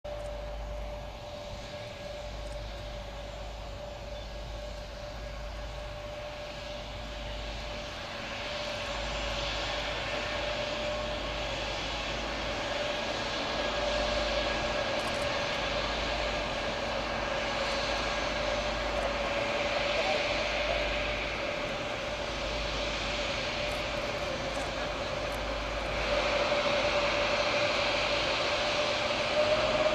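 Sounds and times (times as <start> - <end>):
jet engines whining: 0.1 - 29.9.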